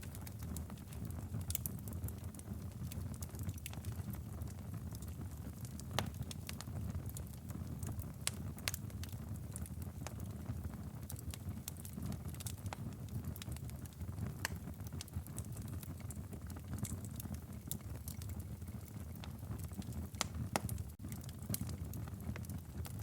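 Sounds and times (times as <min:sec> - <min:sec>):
burning firewood popping: 0:00.0 - 0:23.0
wood fire crackling: 0:00.0 - 0:23.0.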